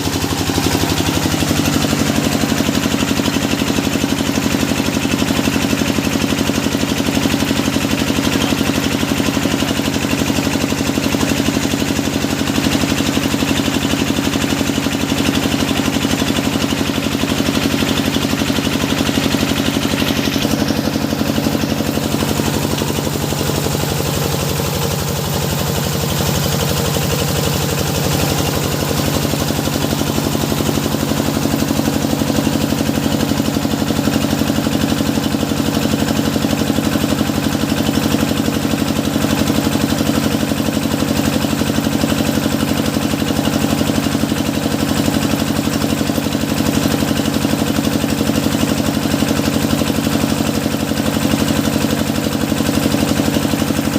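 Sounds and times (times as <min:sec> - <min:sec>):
drilling rig engine running: 0:00.0 - 0:53.9.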